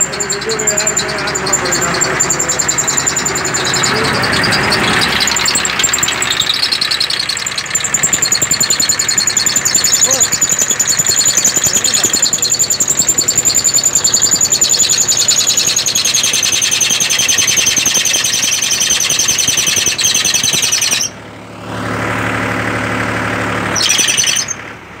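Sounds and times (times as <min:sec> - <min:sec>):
spray pump pulsing high-pitched: 0:00.0 - 0:21.2, 0:23.7 - 0:24.6
tractor engine hum: 0:00.0 - 0:25.0.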